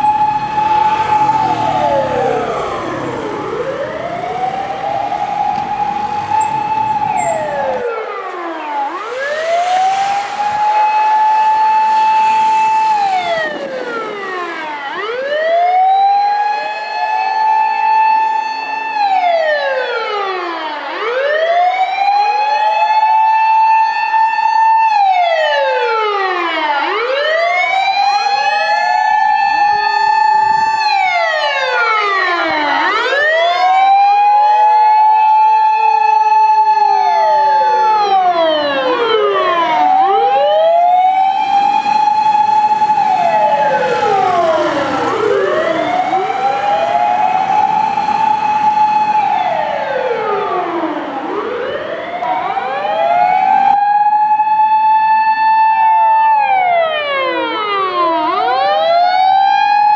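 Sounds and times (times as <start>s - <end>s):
fire truck sirens wailing: 0.0s - 59.9s.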